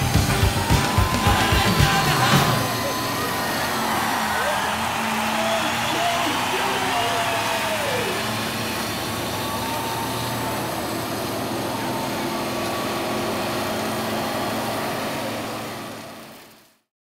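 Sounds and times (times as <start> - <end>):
tyres spinning on pavement: 0.0 - 16.7
car engine at high revs: 0.0 - 16.8.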